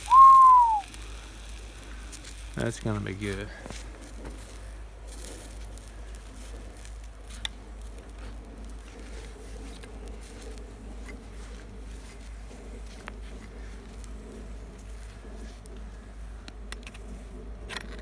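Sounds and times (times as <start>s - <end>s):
campfire hissing and crackling: 0.0s - 18.0s.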